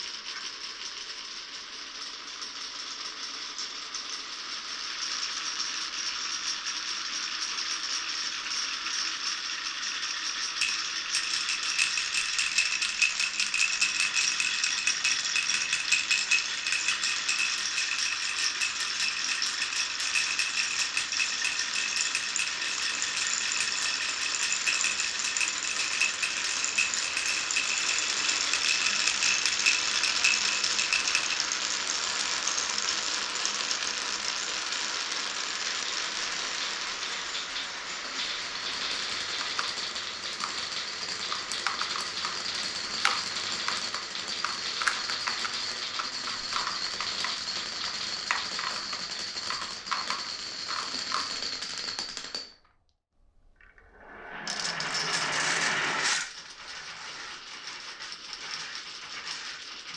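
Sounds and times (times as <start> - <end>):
glass marbles clattering on wooden track: 0.0 - 52.7, 56.2 - 59.9.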